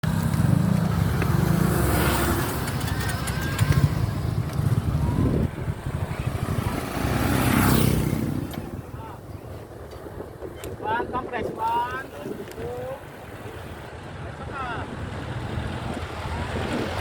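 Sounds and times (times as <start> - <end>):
road rush: 0.0 - 17.0
wind: 0.0 - 17.0.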